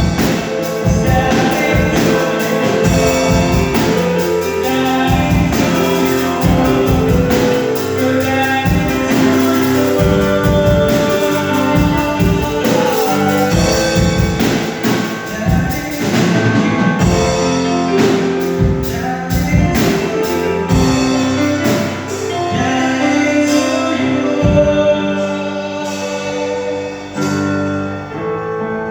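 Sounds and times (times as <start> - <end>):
gospel singing: 0.0 - 27.6
drum kit: 0.0 - 27.9
keyboard: 0.0 - 28.9.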